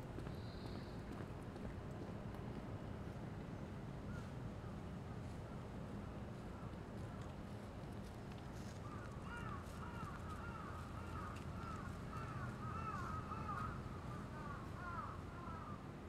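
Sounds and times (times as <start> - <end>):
low hum of city background: 0.0 - 16.0.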